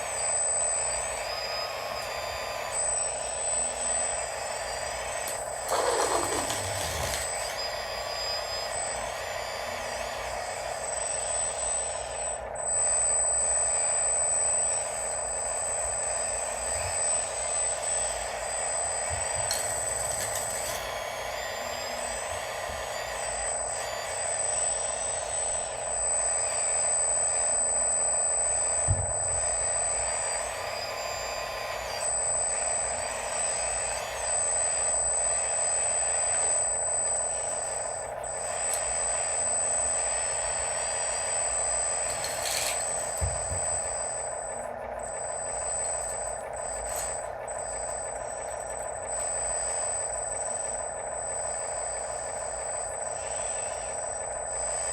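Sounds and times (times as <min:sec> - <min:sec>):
toy motor whine: 0:00.0 - 0:54.9.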